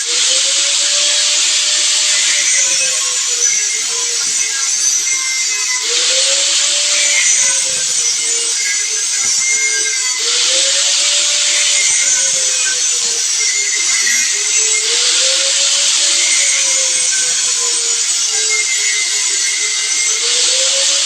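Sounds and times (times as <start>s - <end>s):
power tool motor grinding: 0.0s - 21.0s.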